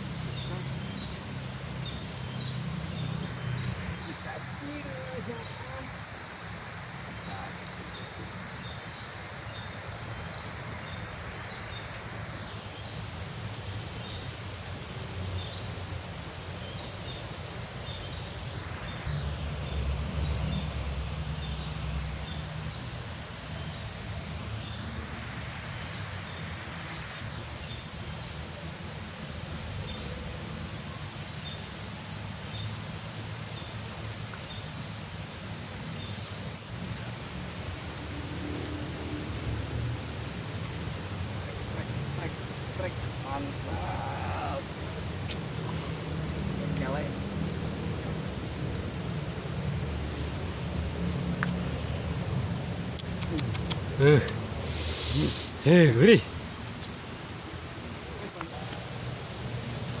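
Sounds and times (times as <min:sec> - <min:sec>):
river water rushing: 0:00.0 - 1:00.0.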